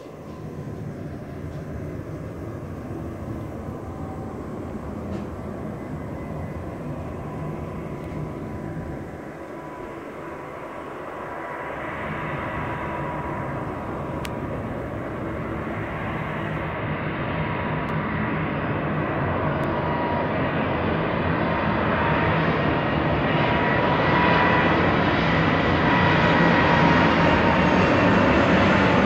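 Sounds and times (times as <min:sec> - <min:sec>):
aircraft engine rumble: 0:00.0 - 0:29.0.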